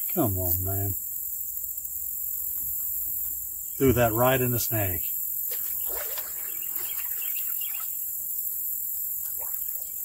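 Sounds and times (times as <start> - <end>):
crickets and insects chorus: 0.0 - 10.0.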